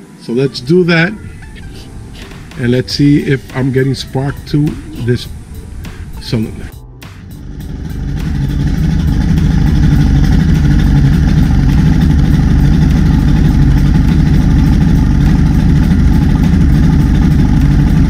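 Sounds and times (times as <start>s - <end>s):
outboard engine idling: 0.7s - 18.0s.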